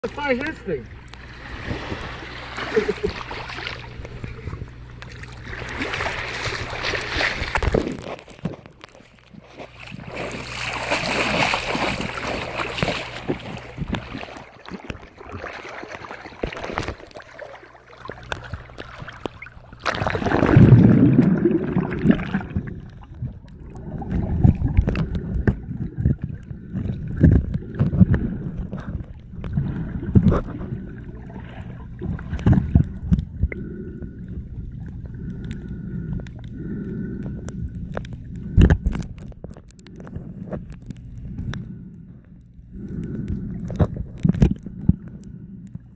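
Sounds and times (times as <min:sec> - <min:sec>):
water sloshing and splashing: 0:00.0 - 0:41.8, 0:42.7 - 0:45.9
muffled underwater rumbling: 0:00.0 - 0:45.9.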